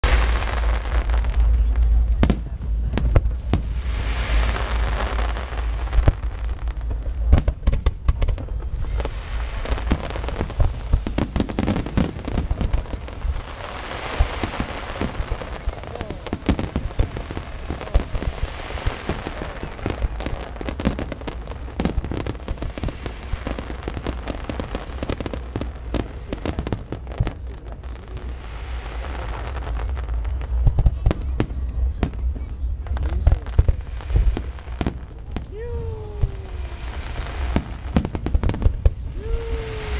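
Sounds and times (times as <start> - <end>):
fireworks bangs and crackling: 0.0 - 39.9
low rumble of explosions: 0.0 - 39.9.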